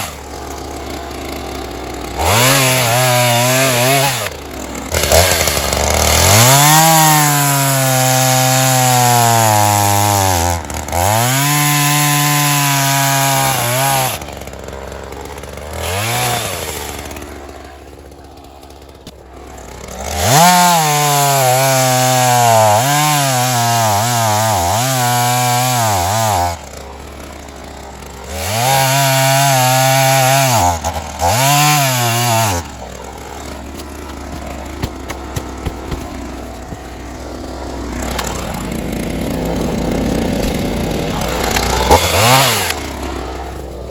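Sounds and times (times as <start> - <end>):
chainsaw revving cutting wood: 0.0 - 43.9.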